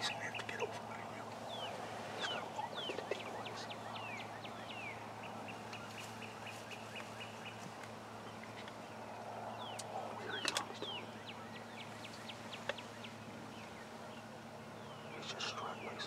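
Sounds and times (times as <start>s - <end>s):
birds whistling: 0.0s - 7.6s, 8.3s - 16.0s
low steady hum: 0.0s - 16.0s.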